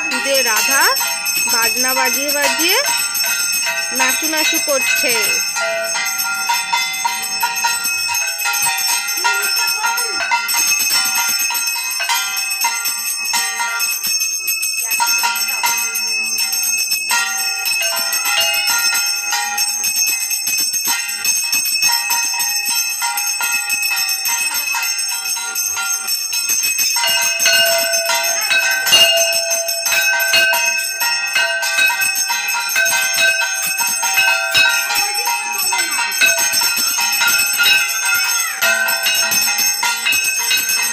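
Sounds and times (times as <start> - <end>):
hand bells ringing: 0.0 - 40.9
lower-pitched bell ringing: 0.0 - 40.9.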